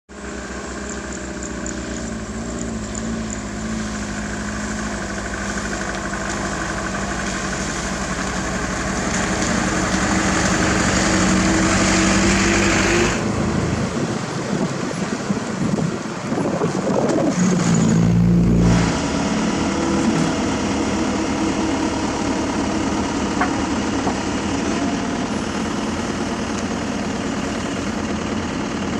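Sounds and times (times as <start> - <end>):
diesel engine running: 0.1 - 28.9.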